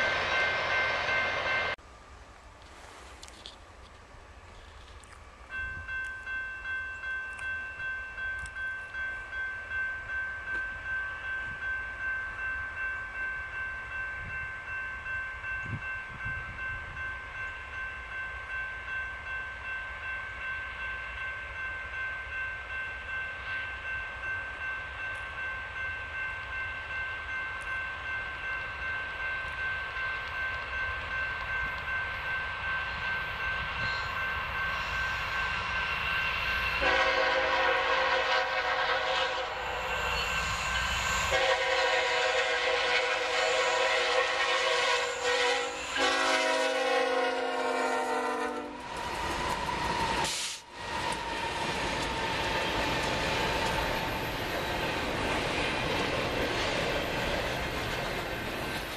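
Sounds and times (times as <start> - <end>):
railroad crossing bell ringing: 0.0 - 1.8, 5.3 - 58.9.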